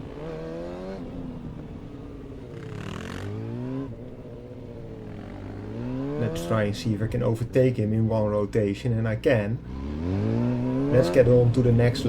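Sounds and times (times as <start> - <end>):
motorcycle engine revving: 0.0 - 7.6, 9.4 - 12.0.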